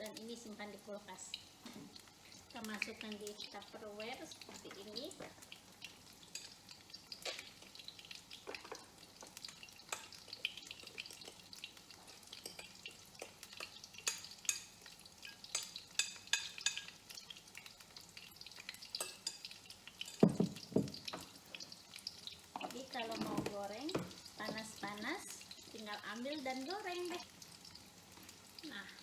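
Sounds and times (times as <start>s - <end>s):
fritters sizzling in hot oil: 0.0s - 29.0s.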